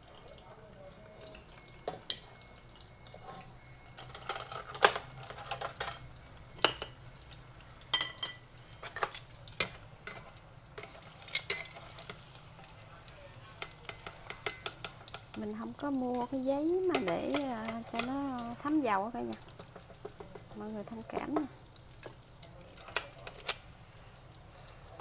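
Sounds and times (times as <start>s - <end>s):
utensils clinking against dishes: 1.2s - 7.0s, 7.9s - 12.7s, 13.6s - 23.6s.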